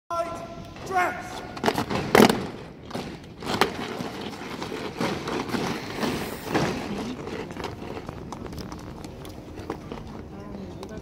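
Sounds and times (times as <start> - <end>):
background noise: 0.1 - 11.0.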